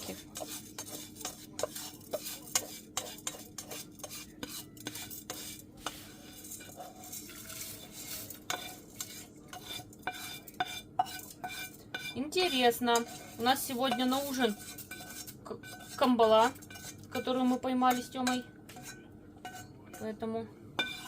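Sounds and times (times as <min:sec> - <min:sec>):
spoon stirring in a pot: 0:00.0 - 0:21.0.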